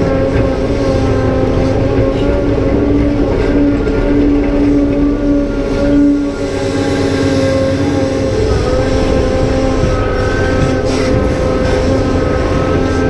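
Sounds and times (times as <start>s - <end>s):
excavator diesel engine under load: 0.0s - 13.0s
hydraulic pump whine: 0.0s - 13.0s.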